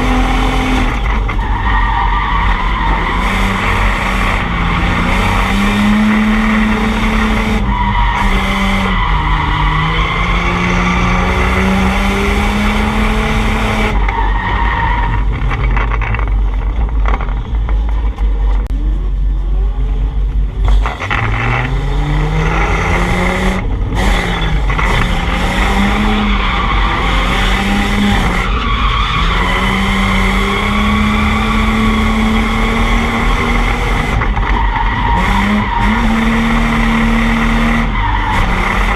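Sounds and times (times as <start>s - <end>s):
car engine revving high: 0.0s - 14.2s, 20.7s - 38.9s
tires squealing: 0.0s - 17.6s, 20.7s - 38.9s.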